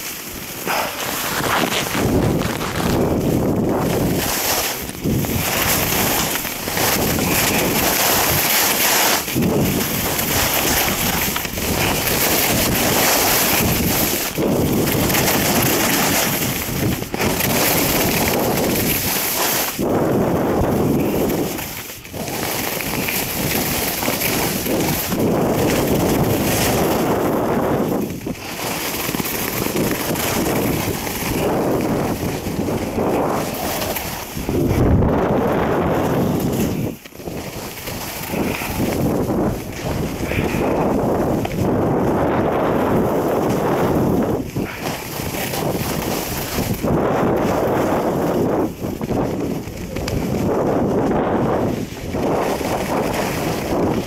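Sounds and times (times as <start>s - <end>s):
skis scraping on hard snow: 0.0s - 54.0s
wind blowing over microphone: 0.0s - 54.0s.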